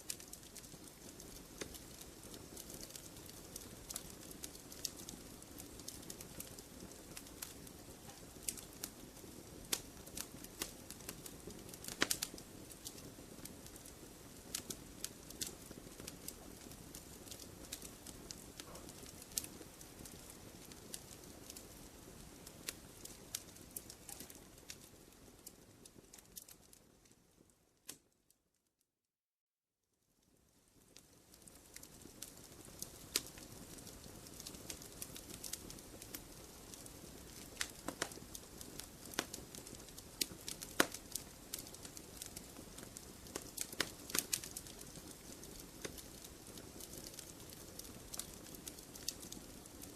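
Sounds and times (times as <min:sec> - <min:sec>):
fire hissing and rumbling: 0:00.0 - 0:27.5, 0:30.3 - 0:49.9
campfire crackling and popping: 0:00.0 - 0:28.1, 0:30.2 - 0:49.9.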